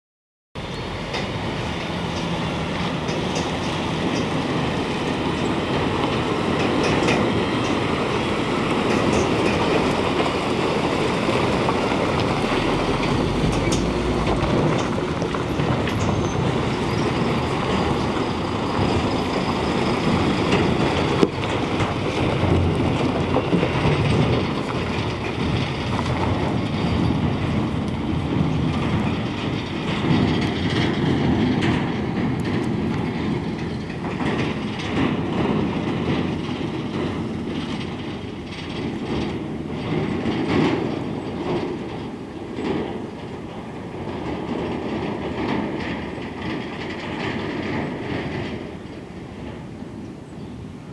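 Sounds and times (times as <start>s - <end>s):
truck engine and road noise: 0.6s - 50.9s
knocks and rattles: 1.1s - 49.6s.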